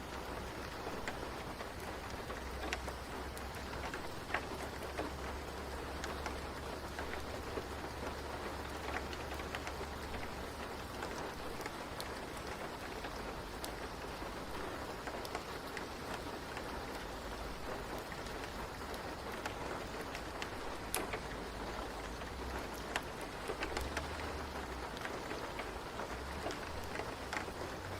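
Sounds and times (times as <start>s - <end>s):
raindrops ticking: 0.0s - 27.9s
steady rain falling: 0.0s - 27.9s.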